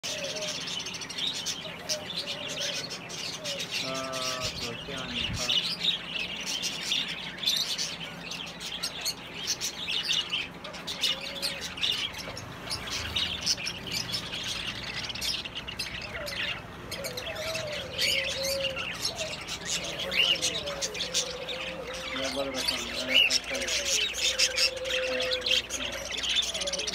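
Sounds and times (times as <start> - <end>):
budgerigars chattering: 0.0 - 26.9.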